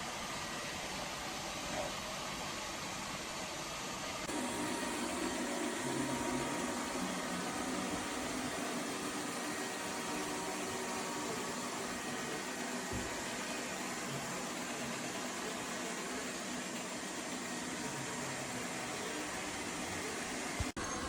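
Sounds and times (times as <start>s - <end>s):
robot vacuum cleaner running: 0.0s - 21.0s.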